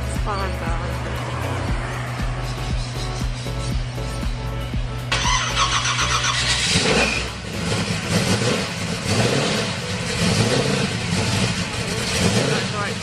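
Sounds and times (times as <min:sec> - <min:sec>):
car engine running unevenly: 0:00.0 - 0:13.0.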